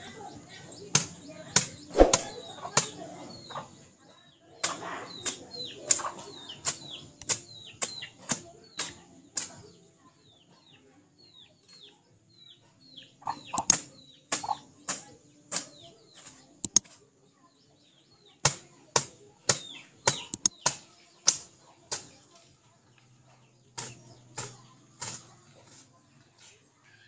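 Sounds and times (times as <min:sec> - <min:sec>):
small birds chirping: 0:00.0 - 0:18.7, 0:19.4 - 0:27.0.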